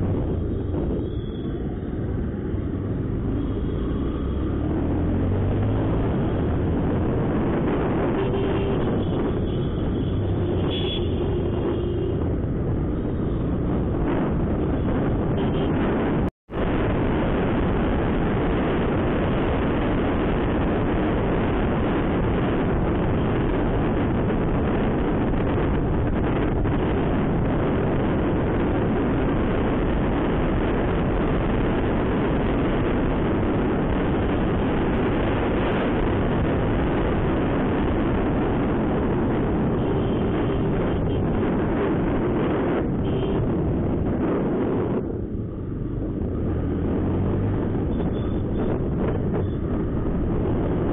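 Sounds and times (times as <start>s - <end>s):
wind rush on microphone: 0.0s - 50.9s.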